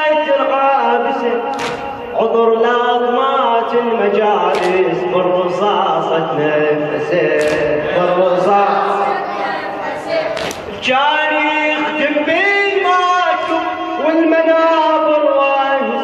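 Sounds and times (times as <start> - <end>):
man chanting into a microphone: 0.0 - 9.0, 10.6 - 16.0.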